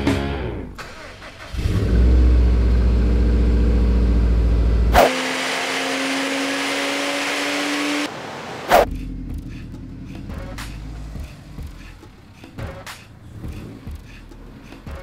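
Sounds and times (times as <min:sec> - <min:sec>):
car engine starting and running: 0:00.4 - 0:15.0.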